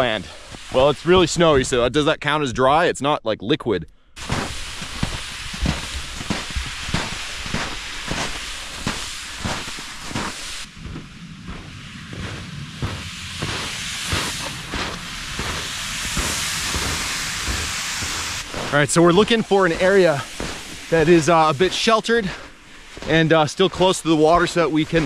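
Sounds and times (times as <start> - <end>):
footsteps in deep snow: 0.0 - 1.9, 4.2 - 25.0
sled dragged through snow: 0.0 - 1.9, 4.2 - 25.0.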